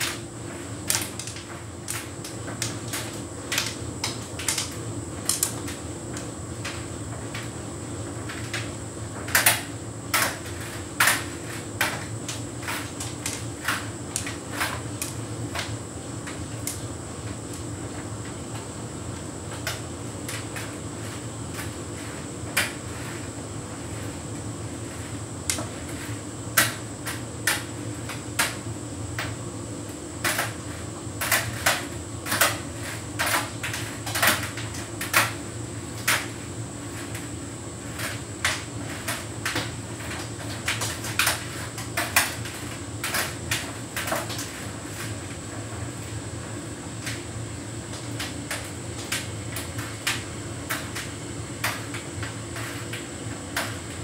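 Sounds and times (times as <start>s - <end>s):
tumble dryer humming: 0.0s - 54.0s.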